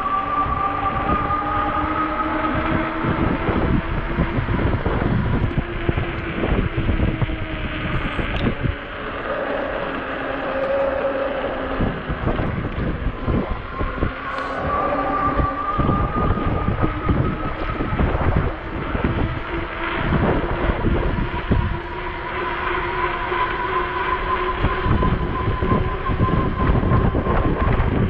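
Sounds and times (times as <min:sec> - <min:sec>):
e-bike motor whining: 0:00.0 - 0:28.0
low road rumble: 0:00.0 - 0:28.0
wind buffeting microphone: 0:00.0 - 0:28.0.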